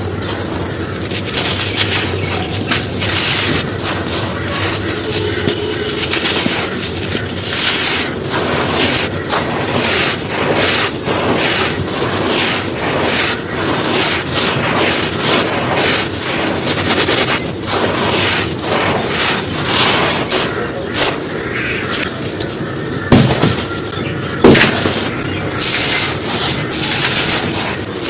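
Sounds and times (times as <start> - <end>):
dry sand crunching: 0.0 - 28.0
sand grains trickling: 0.0 - 28.0.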